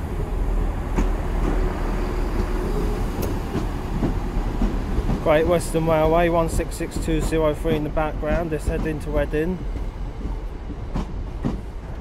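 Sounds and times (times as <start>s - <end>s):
train wheels rumbling over rails: 0.0s - 12.0s.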